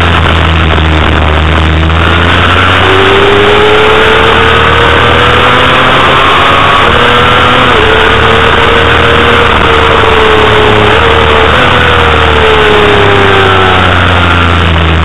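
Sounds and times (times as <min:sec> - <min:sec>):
motorcycle engine revving high: 0:00.0 - 0:15.0
wind rush on microphone: 0:00.0 - 0:15.0.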